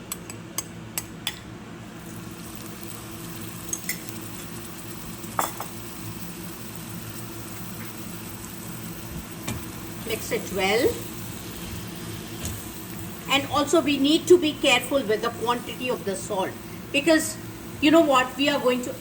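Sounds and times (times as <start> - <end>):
onions sizzling in oil: 2.0 - 19.0.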